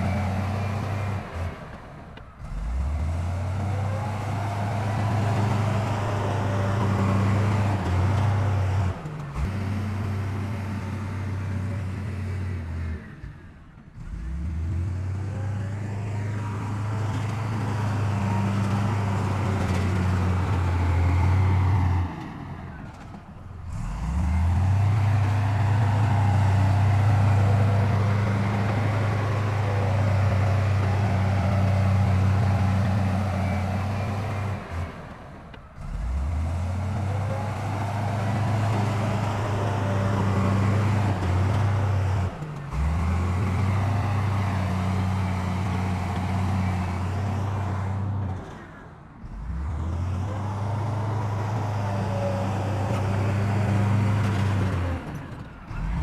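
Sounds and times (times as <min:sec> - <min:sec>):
heavy diesel engines droning: 0:00.0 - 0:56.0.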